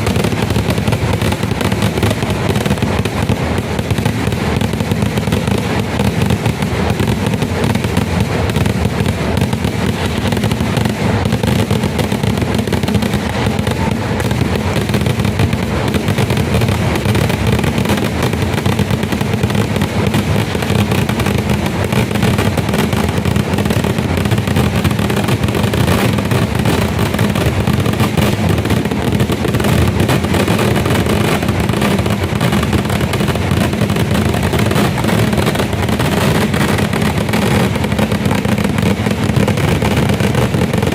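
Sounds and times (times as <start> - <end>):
firecracker explosions: 0.0 - 40.9.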